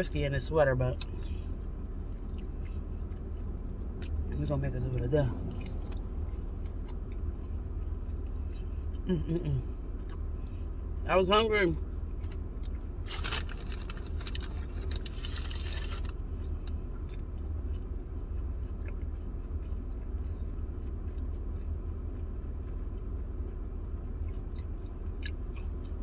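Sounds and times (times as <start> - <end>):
steady low hum: 0.0 - 26.0
person chewing fries: 0.9 - 11.0, 11.8 - 26.0.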